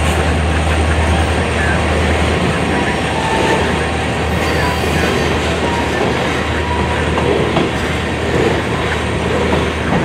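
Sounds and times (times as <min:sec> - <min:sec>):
train wheels rolling on rails: 0:00.0 - 0:10.0.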